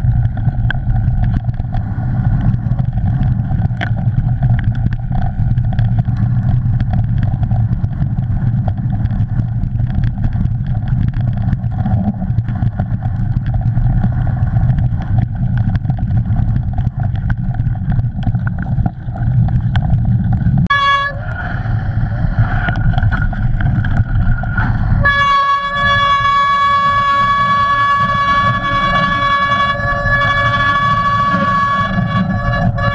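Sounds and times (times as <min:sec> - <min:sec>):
wind and tyres rumbling: 0:00.0 - 0:32.9.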